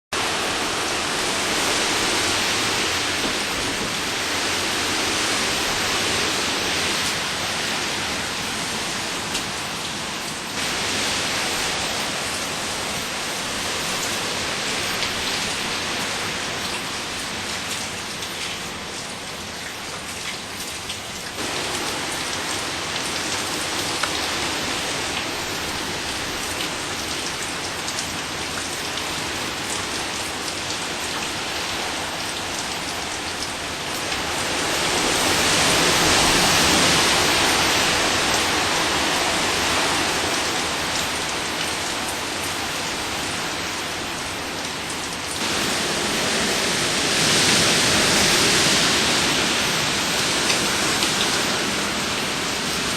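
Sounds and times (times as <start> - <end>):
heavy rain: 0.1 - 52.9.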